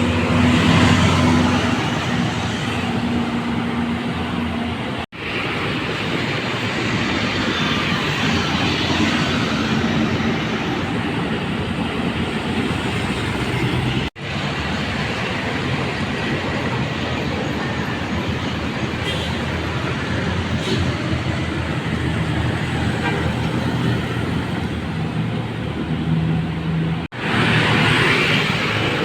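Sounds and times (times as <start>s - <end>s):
heavy traffic rumble and hiss: 0.0s - 29.0s.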